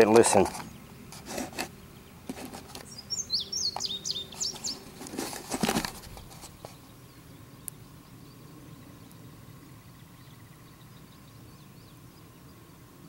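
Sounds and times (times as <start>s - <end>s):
faint steady hum: 0.0s - 13.0s
small bird chirping: 0.5s - 5.4s, 6.0s - 12.9s.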